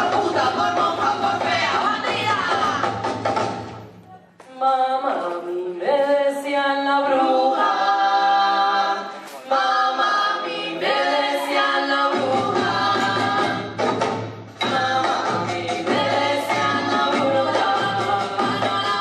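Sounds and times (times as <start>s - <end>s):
group singing unaccompanied: 0.0s - 3.4s, 4.6s - 19.0s.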